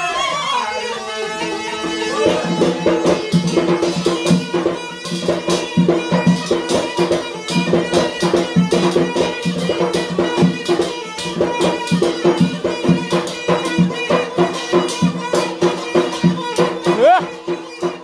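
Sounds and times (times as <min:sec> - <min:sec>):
reed pipe melody: 0:00.0 - 0:18.0
metal tray struck as percussion: 0:01.4 - 0:18.0.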